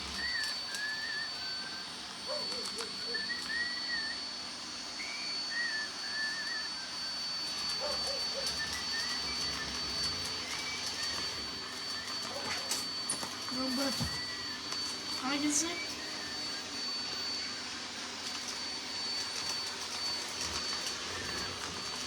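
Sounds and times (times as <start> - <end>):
high motor whine: 0.0 - 22.0
robot vacuum running: 0.0 - 22.0
wavering whistle-like tones: 0.0 - 22.0.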